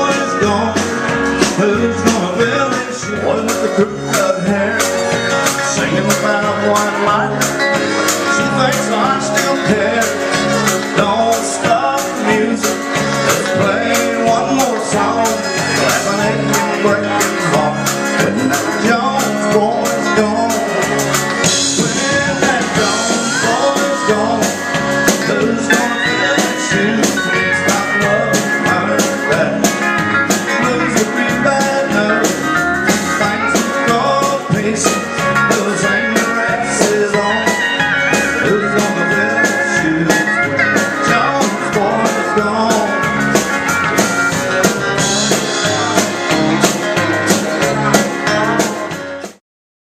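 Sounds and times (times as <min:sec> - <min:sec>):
electric guitar bending pitch: 0:00.0 - 0:49.4
live country band playing: 0:00.0 - 0:49.4.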